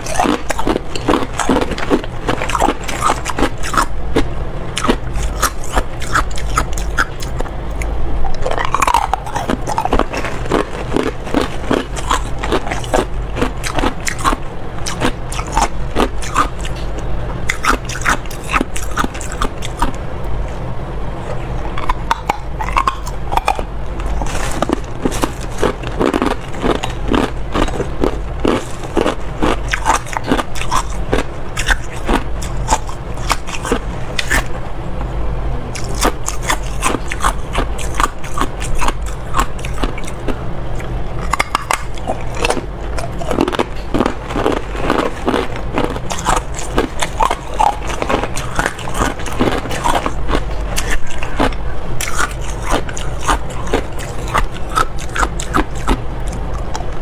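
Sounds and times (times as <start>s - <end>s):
ice being chewed: 0.0s - 20.0s, 21.3s - 34.5s, 35.7s - 57.0s.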